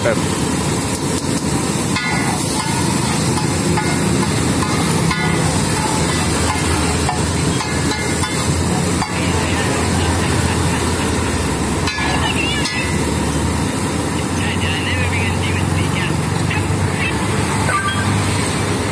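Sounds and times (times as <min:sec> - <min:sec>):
butter sizzling on a griddle: 0:00.1 - 0:15.7.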